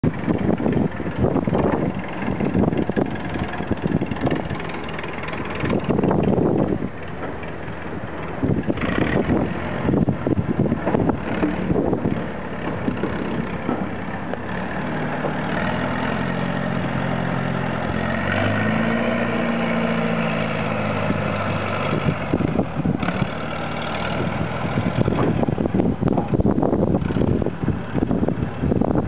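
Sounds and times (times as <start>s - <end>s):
engine running at low speed: 0.0s - 29.0s
wind buffeting microphone: 0.0s - 29.0s.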